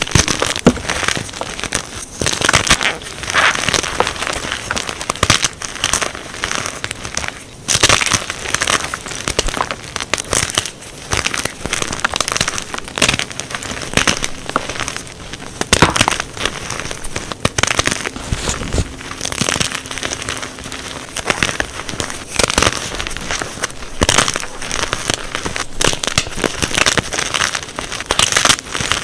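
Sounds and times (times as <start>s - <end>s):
chalk blocks snapping and crunching: 0.0s - 29.0s.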